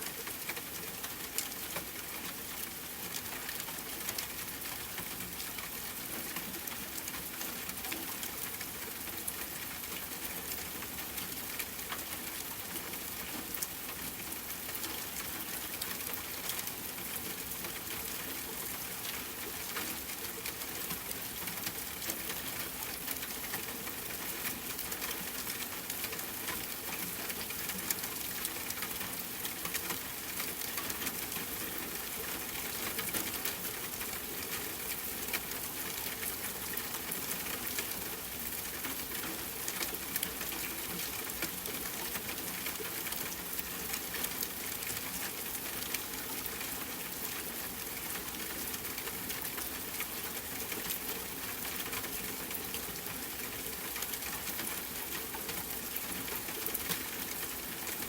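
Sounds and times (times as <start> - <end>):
rain pattering on a tent: 0.0 - 58.0.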